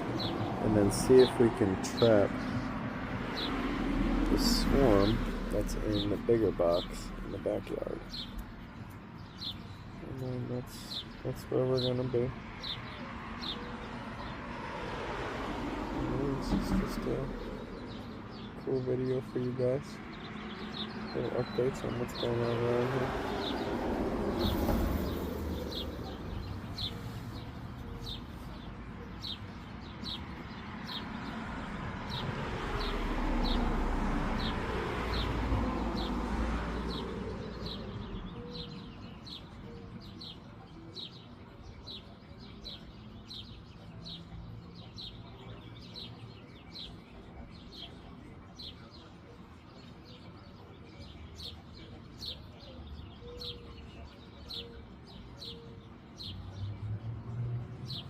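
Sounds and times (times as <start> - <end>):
bird chirping: 0.0 - 14.8, 16.1 - 58.0.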